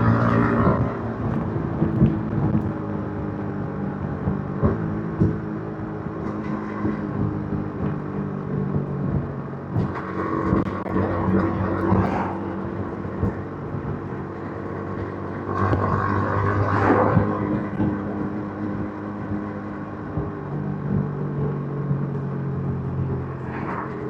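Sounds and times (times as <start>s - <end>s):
motorcycle engine while riding: 0.0s - 24.0s.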